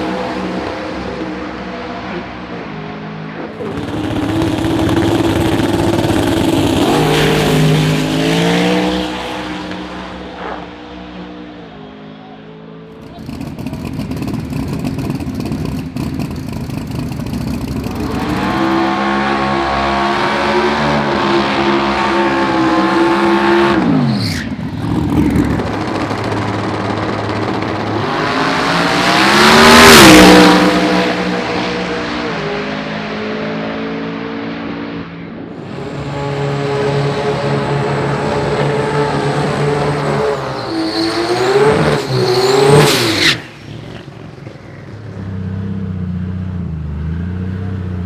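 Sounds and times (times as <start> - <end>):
race car engines revving: 0.0 - 12.0, 12.9 - 48.0.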